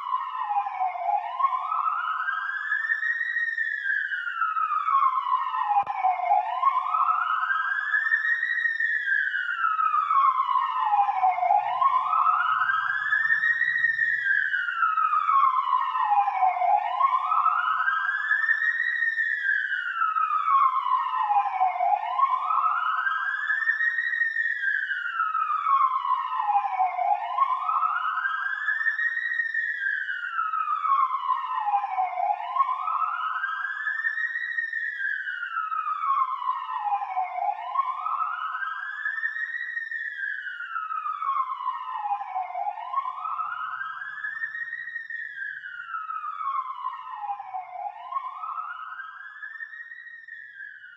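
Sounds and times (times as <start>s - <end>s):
police siren wailing: 0.0s - 50.9s.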